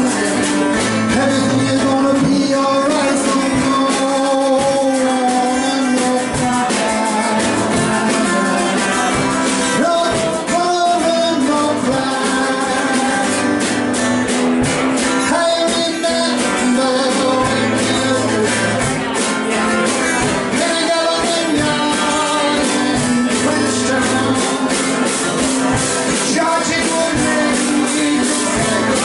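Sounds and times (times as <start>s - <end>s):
acoustic guitar strumming: 0.0s - 29.0s
drum kit beat: 0.0s - 29.0s.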